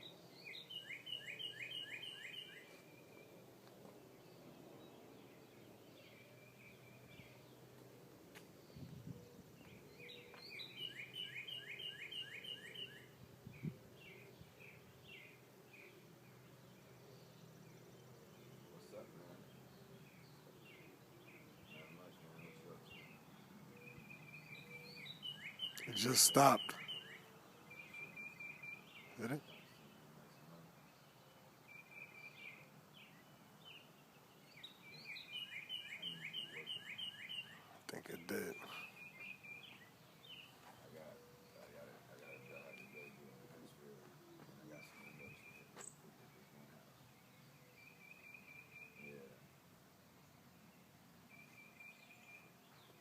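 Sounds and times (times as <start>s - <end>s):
faint bird calls: 0.0s - 33.8s, 34.4s - 49.5s
background hiss: 0.0s - 53.0s
songbird singing: 0.0s - 53.0s.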